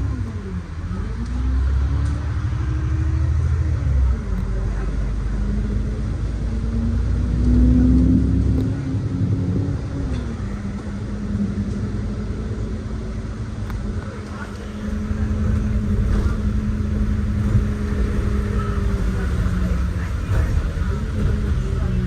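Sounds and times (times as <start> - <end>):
bus engine rumble and drone: 0.0 - 22.0.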